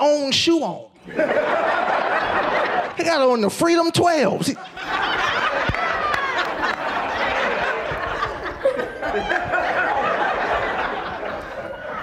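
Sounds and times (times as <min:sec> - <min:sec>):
audience laughing: 0:01.0 - 0:03.3, 0:04.4 - 0:12.0.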